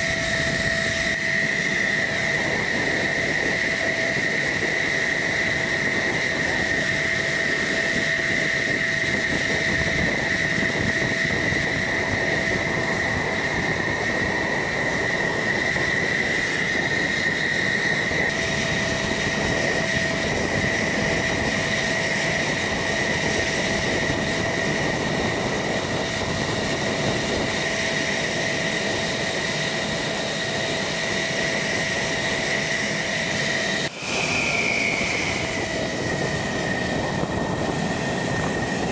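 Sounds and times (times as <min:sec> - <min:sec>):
jet engine turbine whine: 0:00.0 - 0:38.9.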